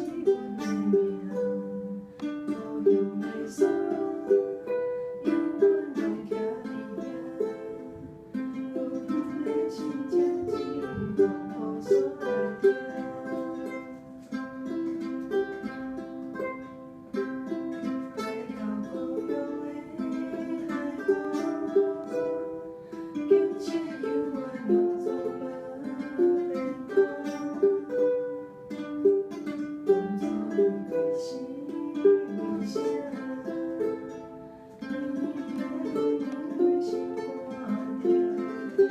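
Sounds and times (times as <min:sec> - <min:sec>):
ukuleles playing: 0:00.0 - 0:38.9.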